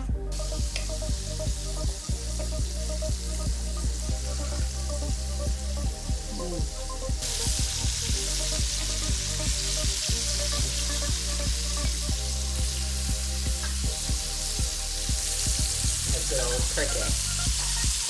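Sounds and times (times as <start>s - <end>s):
background music with steady beat: 0.0s - 18.0s
chicken frying in hot oil: 0.4s - 18.0s.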